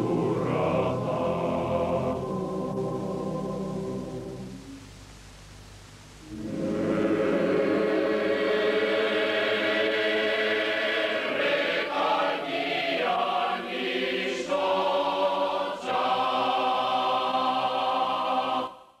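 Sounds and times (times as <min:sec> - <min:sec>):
choir singing held chords: 0:00.0 - 0:04.8, 0:06.2 - 0:19.0.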